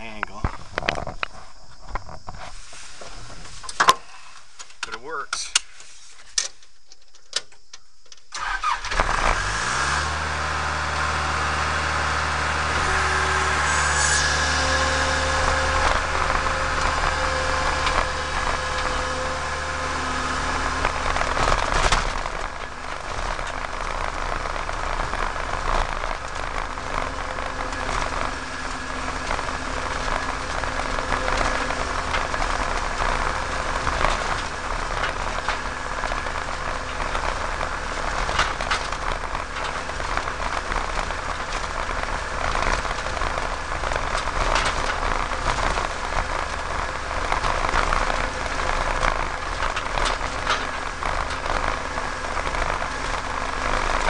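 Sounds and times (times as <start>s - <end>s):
crackling hissing rattle: 0.0s - 54.0s
farm machinery engine hum: 8.4s - 54.0s.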